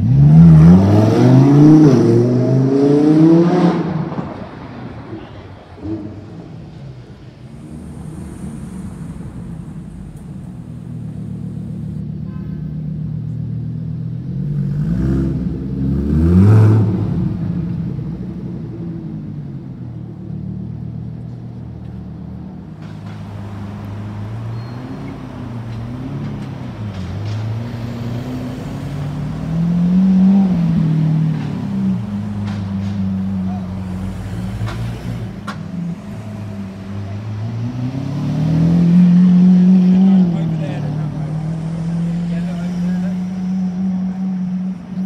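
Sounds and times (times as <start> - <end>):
sports car revving pulling away: 0.0 - 5.0, 5.8 - 12.2, 13.4 - 21.2, 23.0 - 45.0
sports car engine blips and revs: 0.0 - 45.0.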